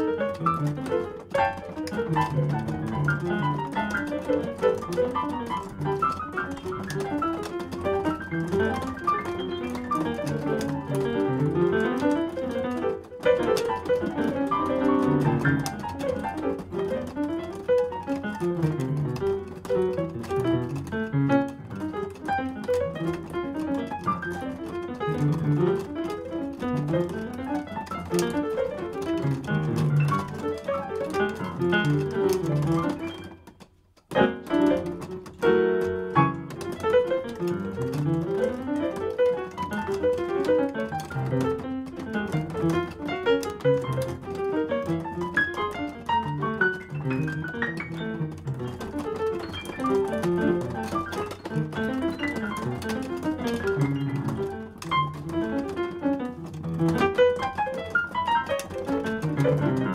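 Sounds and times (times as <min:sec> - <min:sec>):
digital piano playing: 0:00.0 - 0:59.9.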